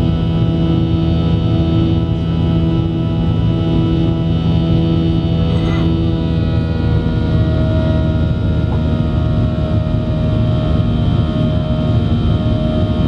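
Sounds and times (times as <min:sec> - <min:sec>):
steady whining tones: 0:00.0 - 0:12.9
airplane cabin engine drone: 0:00.0 - 0:13.0.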